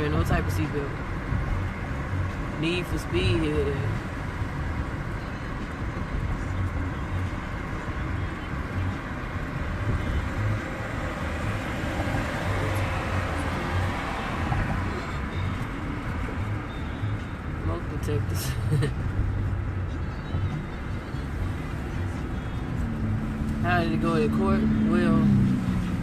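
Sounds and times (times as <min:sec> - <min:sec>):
car cabin road and engine noise: 0:00.0 - 0:26.0.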